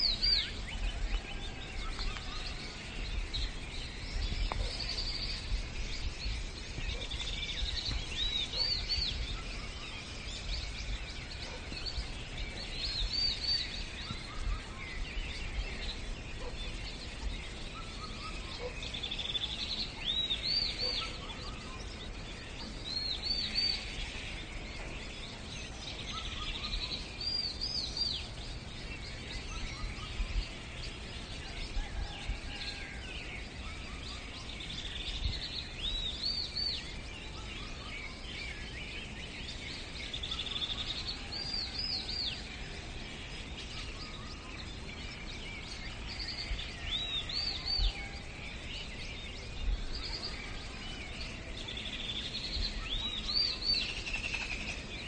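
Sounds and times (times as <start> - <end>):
faint bird chirps: 0.0 - 55.0.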